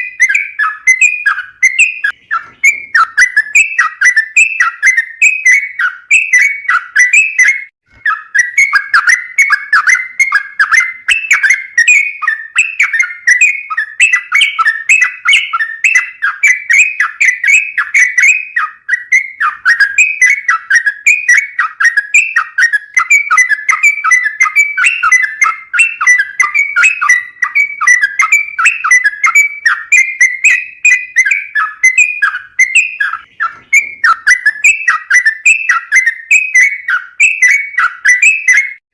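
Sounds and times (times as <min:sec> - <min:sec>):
bird singing chattering notes: 0:00.0 - 0:38.8.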